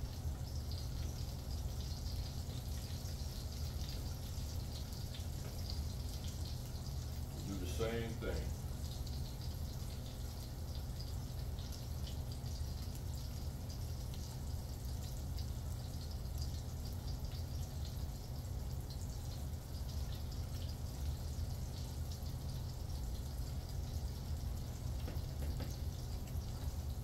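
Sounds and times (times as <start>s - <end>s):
sausage sizzling in a frying pan: 0.0s - 27.0s
steady low hum: 0.0s - 27.0s.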